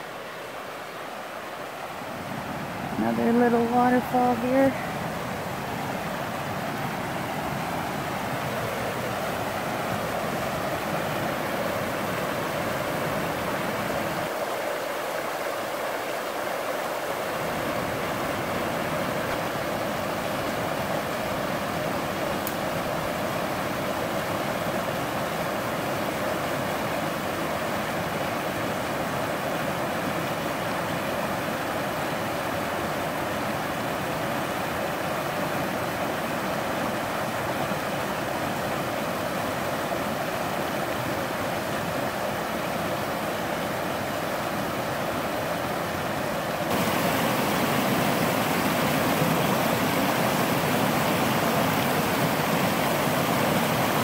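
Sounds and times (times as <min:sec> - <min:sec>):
river rapids rushing over rocks: 0:00.0 - 0:54.0.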